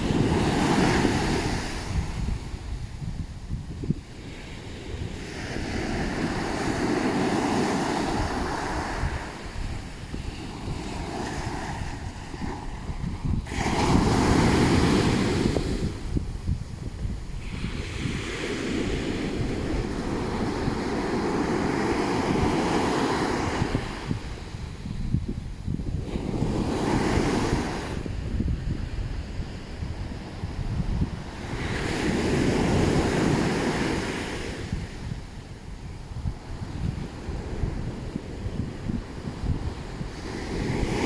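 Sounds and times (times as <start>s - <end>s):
ocean waves crashing on beach: 0.0s - 41.0s
wind buffeting microphone: 0.0s - 41.0s.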